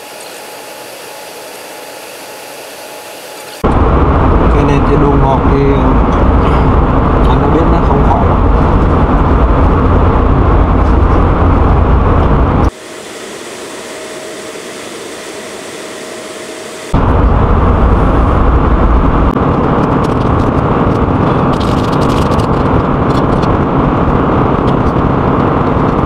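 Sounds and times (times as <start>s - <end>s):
airliner cabin rumble: 3.6s - 26.0s.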